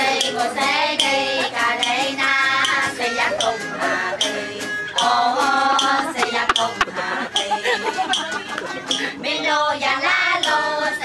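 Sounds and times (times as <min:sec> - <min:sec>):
women singing folk song: 0:00.0 - 0:11.0
plucked lute: 0:00.1 - 0:09.7.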